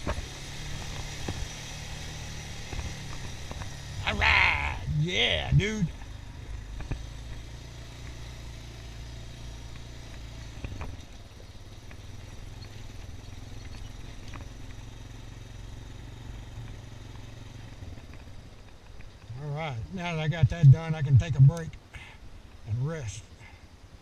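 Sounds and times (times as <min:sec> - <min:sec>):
engine running at low speed: 0:00.0 - 0:24.0.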